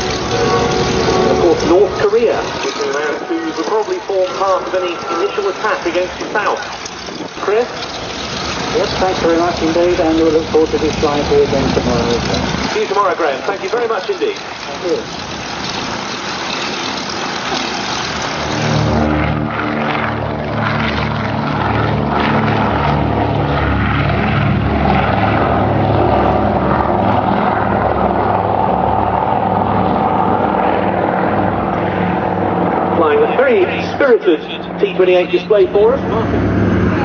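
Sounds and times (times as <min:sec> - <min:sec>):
propeller aircraft engine drone: 0:00.0 - 0:37.0.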